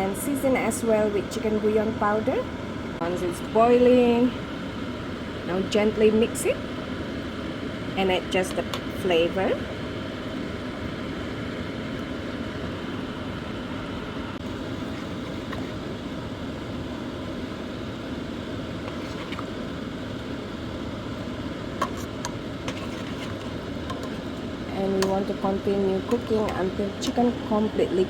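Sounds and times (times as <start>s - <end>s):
pot boiling and bubbling: 0.0s - 28.0s.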